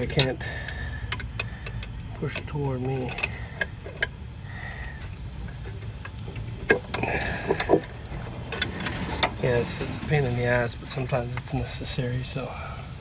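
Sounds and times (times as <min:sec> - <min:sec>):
hand tools clicking on metal: 0:00.0 - 0:13.0
scraping and handling: 0:00.0 - 0:13.0
steady low hum: 0:00.0 - 0:13.0.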